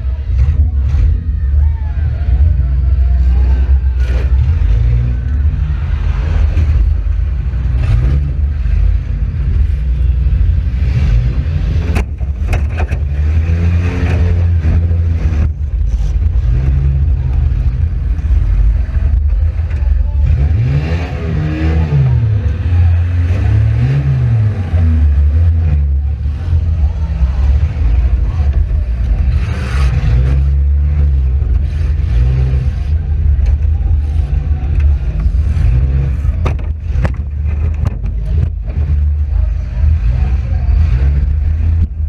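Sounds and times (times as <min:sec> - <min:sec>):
car engine revving under load: 0:00.0 - 0:42.0.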